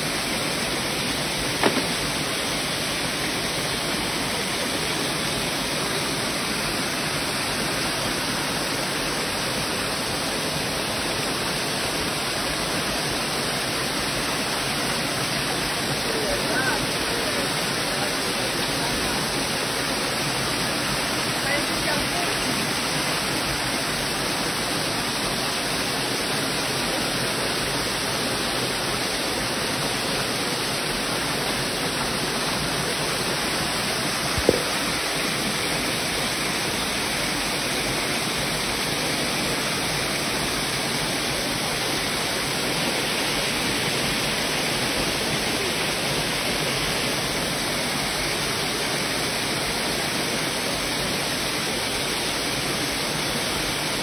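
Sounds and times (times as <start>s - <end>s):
waterfall pouring into pool: 0.0s - 54.0s.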